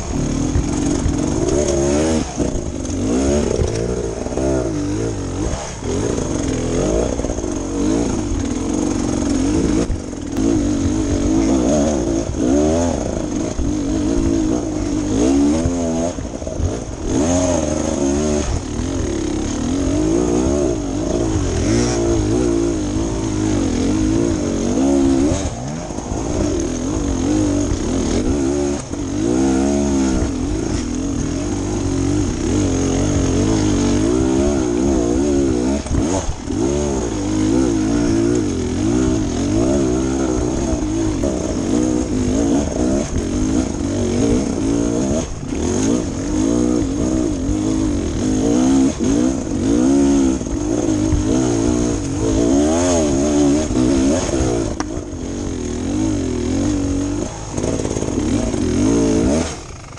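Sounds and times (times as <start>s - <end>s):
dirt bike engine revving under load: 0.0s - 59.9s.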